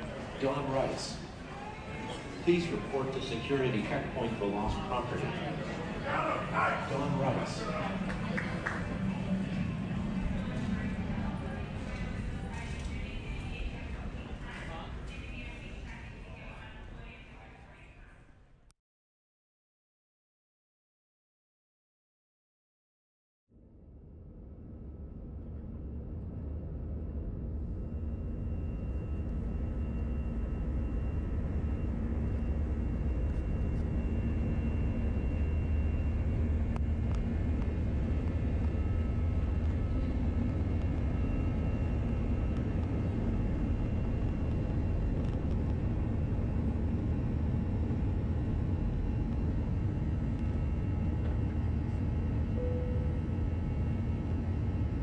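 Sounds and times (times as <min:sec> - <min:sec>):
jet engines at takeoff thrust: 0:00.0 - 0:17.2, 0:24.0 - 0:55.0
takeoff roll rumble: 0:00.0 - 0:17.2, 0:23.9 - 0:55.0.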